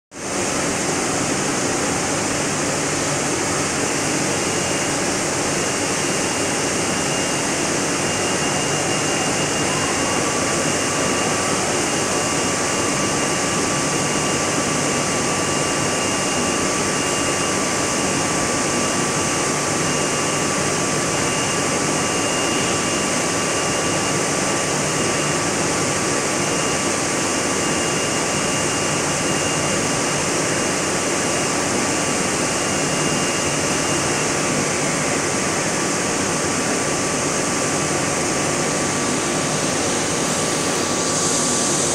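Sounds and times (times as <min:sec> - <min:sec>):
thin high whine: 0:00.2 - 0:41.9.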